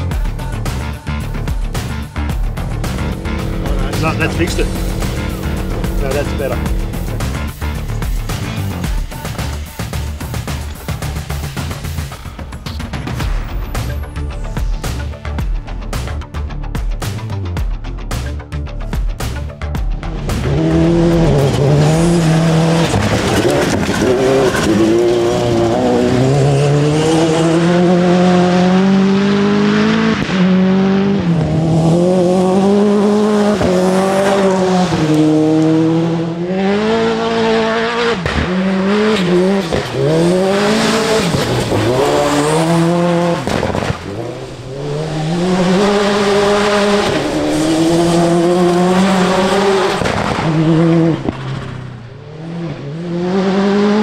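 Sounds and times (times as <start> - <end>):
rally car engine revving: 0.0 - 14.0, 20.0 - 54.0.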